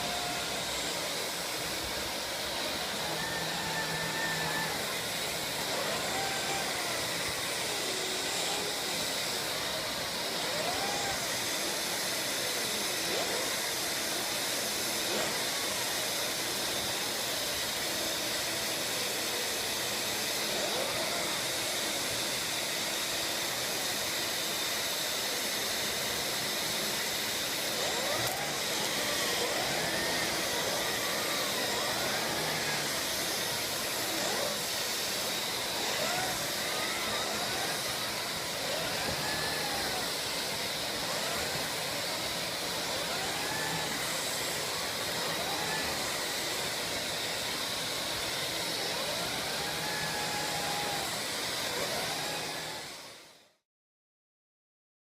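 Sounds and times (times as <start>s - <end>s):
vacuum cleaner running: 0.0s - 53.6s.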